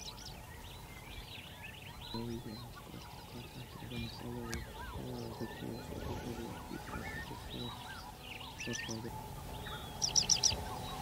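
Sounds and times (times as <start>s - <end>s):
loud sharp high bird calls: 0.0s - 11.0s
low repeated bird calls: 0.0s - 11.0s
wild birds chirping: 0.0s - 11.0s.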